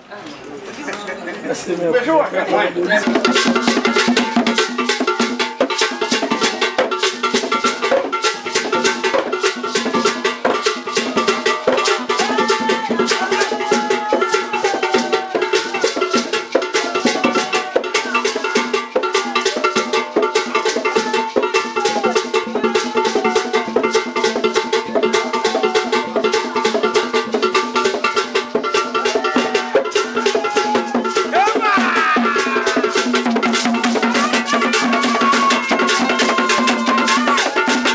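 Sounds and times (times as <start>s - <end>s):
drum ensemble playing: 2.0s - 37.9s.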